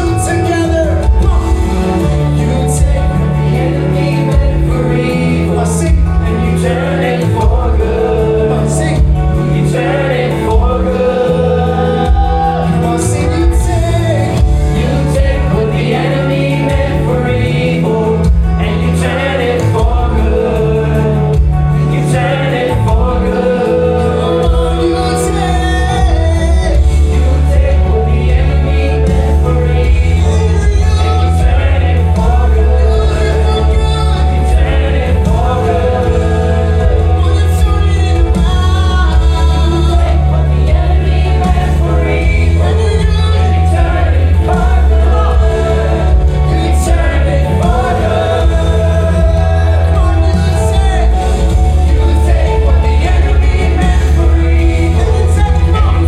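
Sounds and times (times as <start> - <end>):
gospel band with singing: 0.0 - 56.0.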